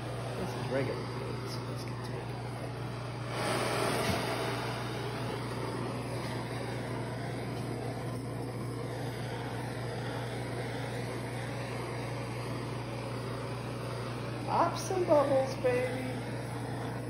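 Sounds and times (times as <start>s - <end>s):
gas torch flame hiss: 0.0s - 17.0s
low hum: 0.0s - 17.0s.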